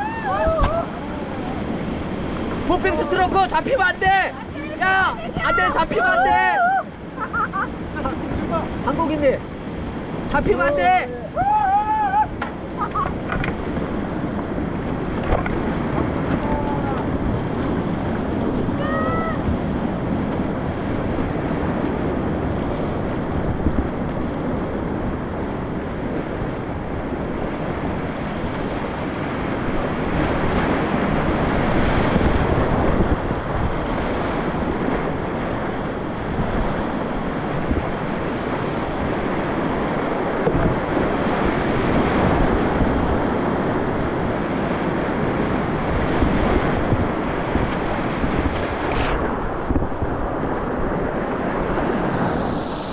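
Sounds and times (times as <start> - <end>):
mountain stream rushing: 0.0 - 52.9
wind on microphone: 0.0 - 52.9.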